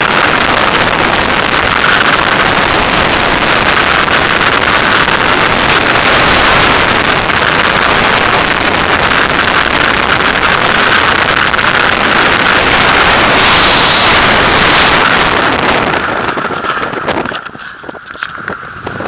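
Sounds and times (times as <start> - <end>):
freefall wind roaring over microphone: 0.0 - 19.0.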